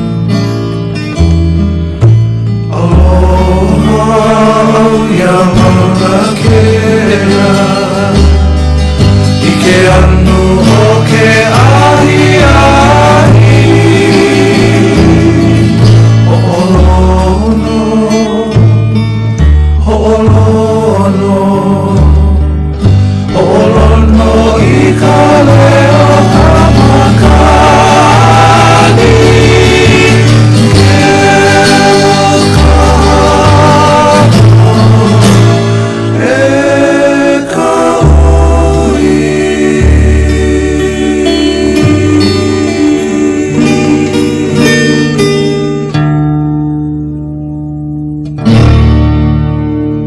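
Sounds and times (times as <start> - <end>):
song with sung melody and bass: 0.0 - 50.0
singing voices: 2.7 - 8.6, 9.4 - 18.8, 19.8 - 22.4, 23.2 - 45.6.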